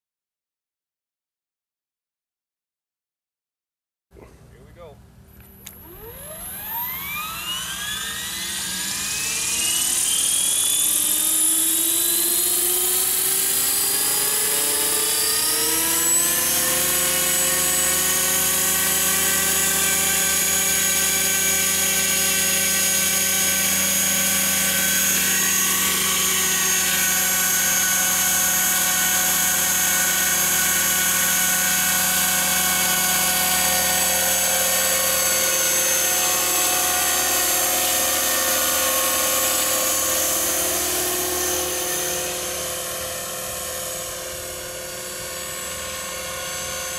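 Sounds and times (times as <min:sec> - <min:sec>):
model helicopter whine: 0:05.2 - 0:46.9.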